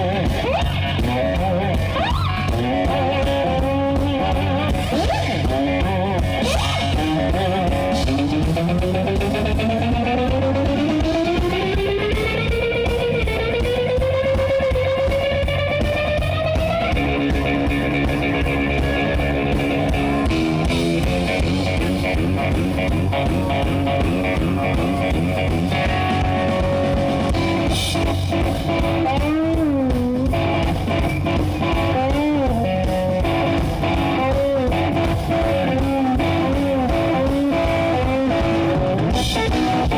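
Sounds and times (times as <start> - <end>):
blues band playing: 0.0 - 39.9
electric guitar lead: 0.0 - 39.9
steady bass line: 0.0 - 39.9.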